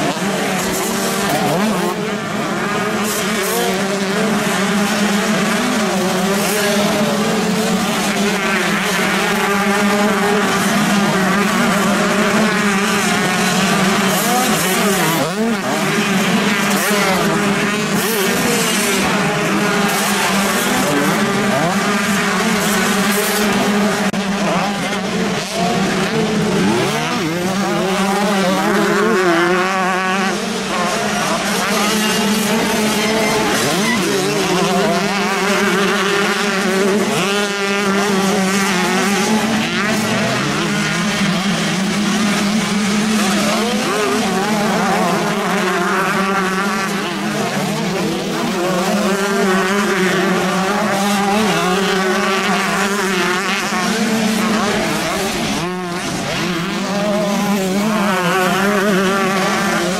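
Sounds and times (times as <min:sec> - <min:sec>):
motocross bikes racing: 0:00.0 - 0:59.9.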